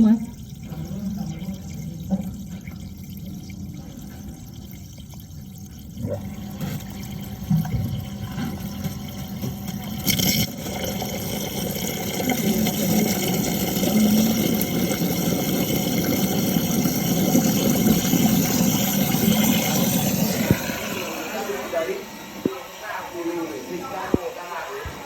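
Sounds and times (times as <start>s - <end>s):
water pump motor humming: 0.0s - 25.0s
water rushing through pipes: 0.0s - 25.0s.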